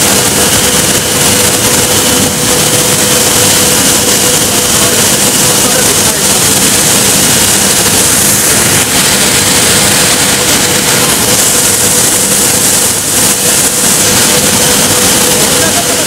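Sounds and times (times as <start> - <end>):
loud steady machine hum: 0.0 - 16.0.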